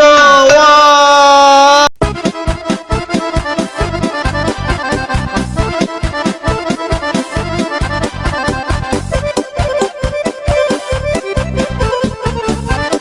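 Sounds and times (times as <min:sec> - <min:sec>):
accordion folk music: 0:02.0 - 0:13.0.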